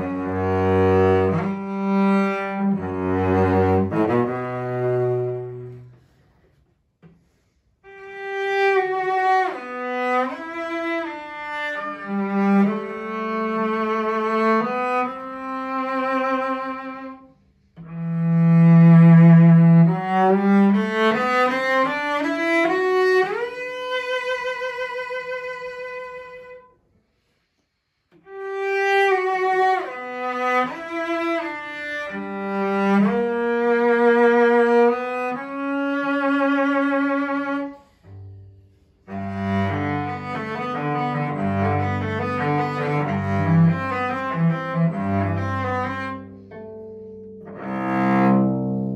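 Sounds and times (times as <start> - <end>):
solo cello with vibrato: 0.0 - 26.7, 27.4 - 48.9.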